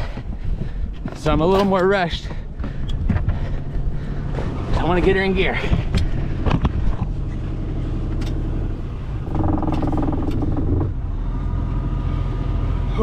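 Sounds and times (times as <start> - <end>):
boat engine running: 2.3 - 13.0.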